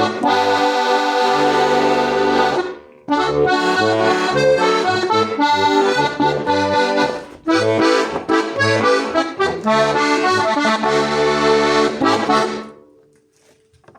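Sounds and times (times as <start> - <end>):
button accordion playing a tune: 0.0 - 12.9.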